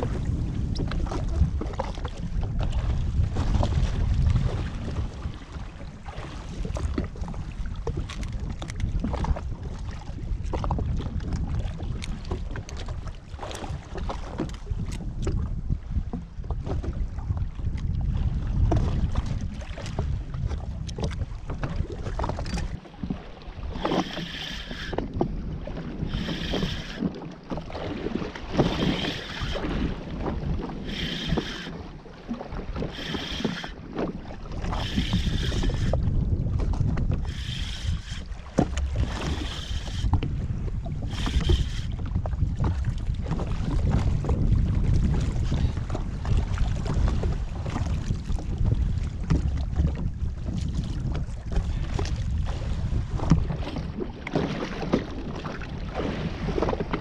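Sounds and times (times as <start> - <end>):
water slapping against hull: 0.0 - 57.0
wind buffeting microphone: 0.0 - 57.0.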